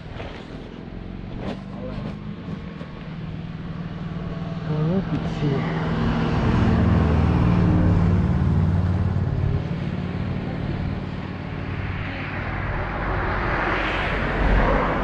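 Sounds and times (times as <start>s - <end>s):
car engine: 0.0s - 15.0s
road noise: 0.0s - 15.0s.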